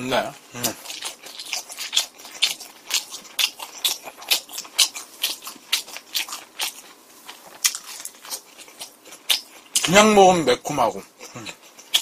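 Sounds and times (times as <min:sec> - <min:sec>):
person chewing food: 0:00.4 - 0:09.9, 0:11.0 - 0:12.0.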